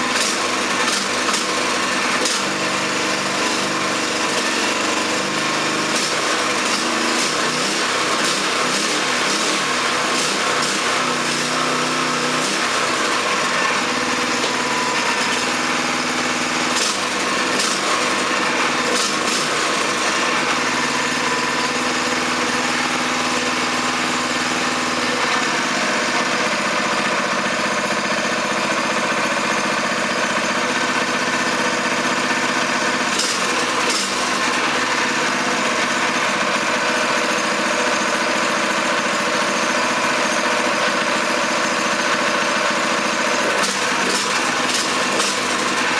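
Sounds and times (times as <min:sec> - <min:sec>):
single-cylinder engine running: 0:00.0 - 0:45.9.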